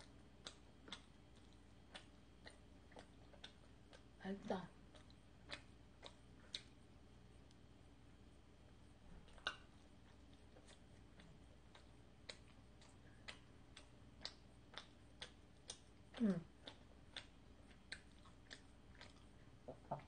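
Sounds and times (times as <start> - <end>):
wet chewing clicks: 0.0 - 7.7, 9.0 - 20.0.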